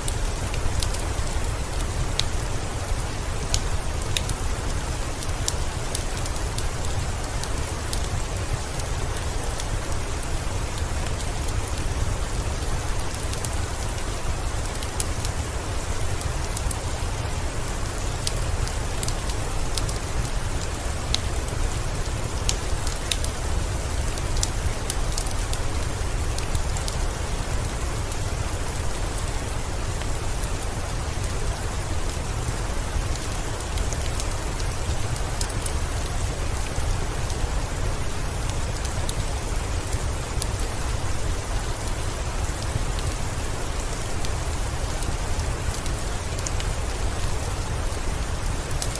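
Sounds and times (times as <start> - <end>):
heavy rain: 0.0 - 48.9
wood fire crackling: 0.0 - 48.9.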